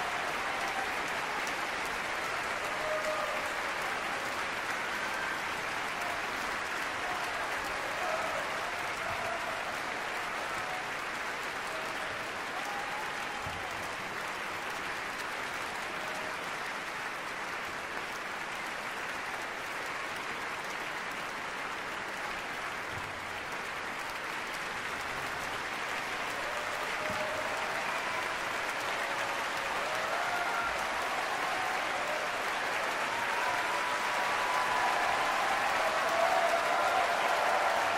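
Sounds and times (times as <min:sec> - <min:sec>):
audience applauding: 0:00.0 - 0:37.9.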